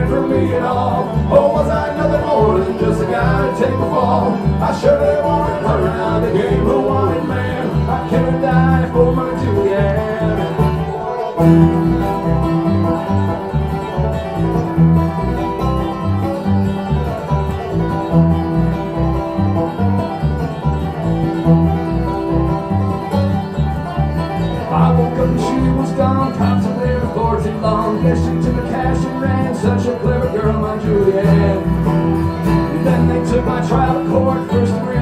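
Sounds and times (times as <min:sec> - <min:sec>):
banjo picking: 0:00.0 - 0:35.0
guitar picking: 0:00.0 - 0:35.0
low bass line: 0:00.0 - 0:35.0.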